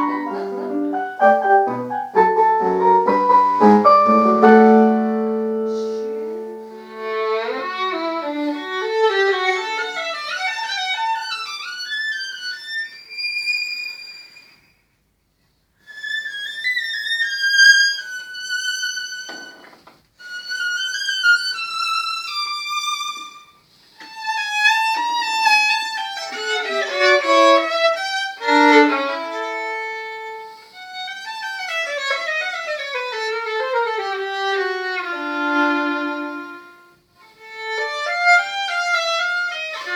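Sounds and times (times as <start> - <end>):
violin melody: 0.0 - 14.6, 15.8 - 39.9.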